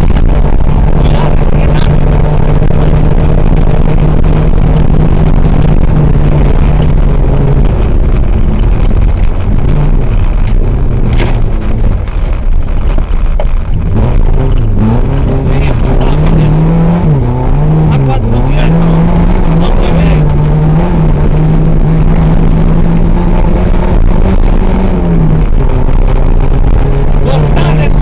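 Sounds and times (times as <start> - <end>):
car engine under load: 0.0 - 28.0
road noise: 0.0 - 28.0.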